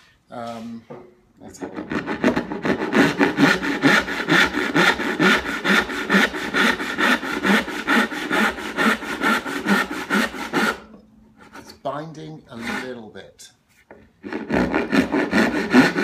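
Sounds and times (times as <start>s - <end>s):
hand saw cutting wood: 1.4s - 13.3s, 14.2s - 16.0s.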